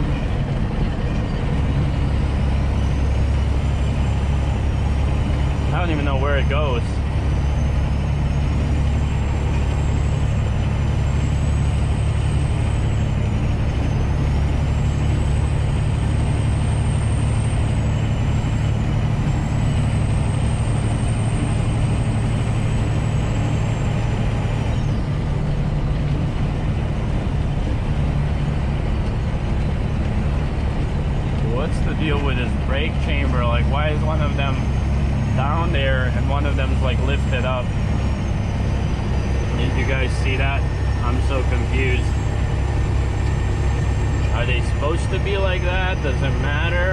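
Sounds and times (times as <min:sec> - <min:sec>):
road noise: 0:00.0 - 0:46.9
truck diesel engine droning: 0:00.0 - 0:46.9.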